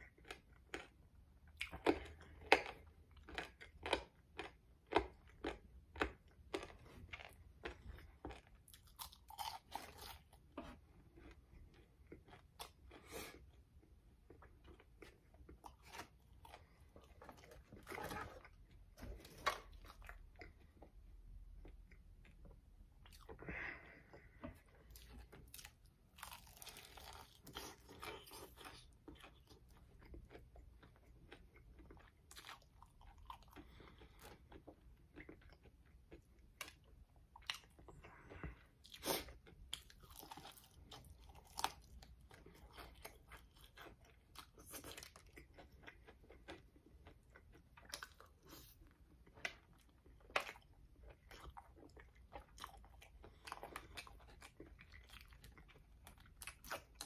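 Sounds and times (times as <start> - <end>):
person chewing crispy fried chicken: 0.0 - 57.0.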